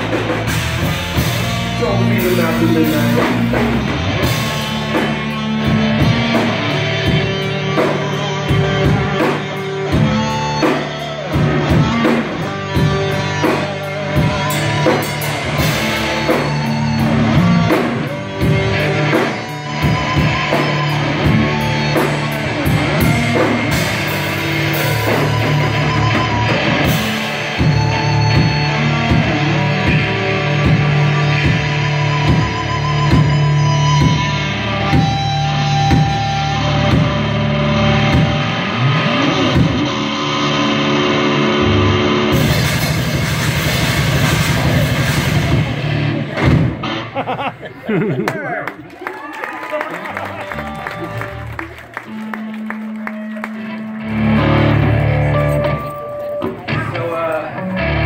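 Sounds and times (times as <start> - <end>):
drum kit: 0.0 - 47.6
electric guitars: 0.0 - 58.0.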